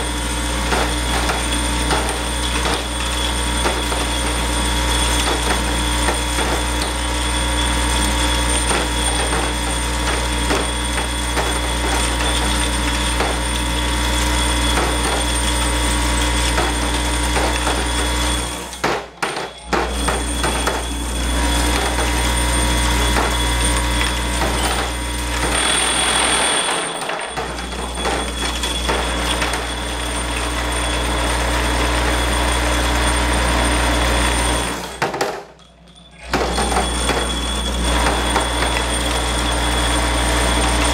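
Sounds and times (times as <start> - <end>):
parts feeder electric hum: 0.0 - 40.9.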